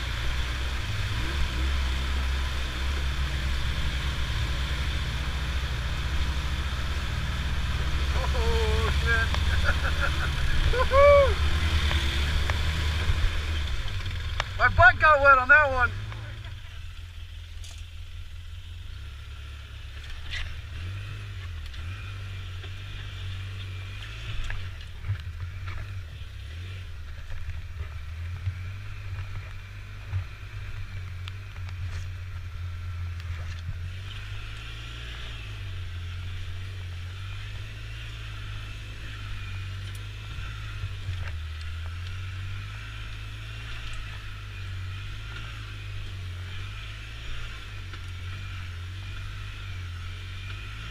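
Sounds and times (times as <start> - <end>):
vehicle engine droning: 0.0 - 50.9.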